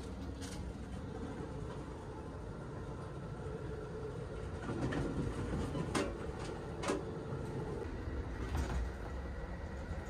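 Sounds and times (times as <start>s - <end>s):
railcar running rumble: 0.0s - 10.0s.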